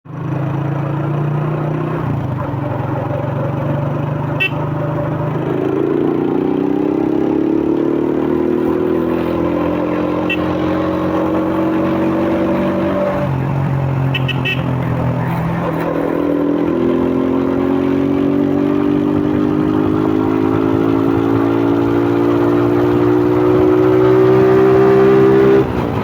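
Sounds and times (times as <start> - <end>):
motorcycle engine running: 0.1 - 26.0.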